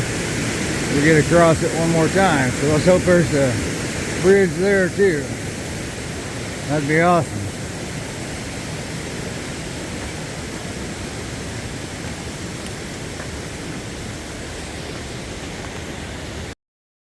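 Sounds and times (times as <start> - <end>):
rushing mountain stream: 0.0 - 16.6.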